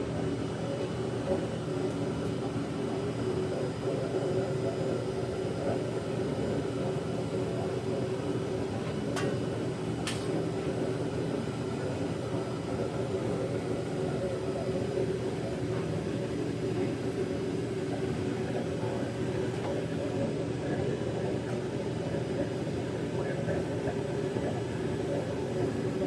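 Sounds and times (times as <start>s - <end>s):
furnace burner rushing and humming: 0.0s - 26.0s.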